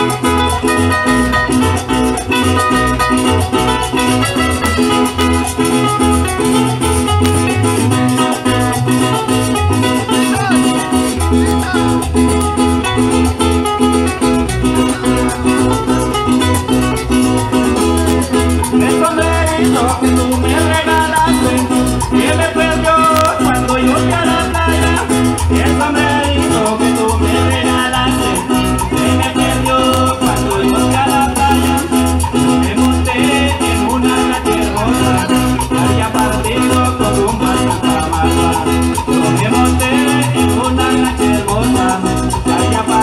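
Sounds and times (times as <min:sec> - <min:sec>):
driving low beat: 0:00.0 - 0:43.0
strummed acoustic guitars: 0:00.0 - 0:43.0.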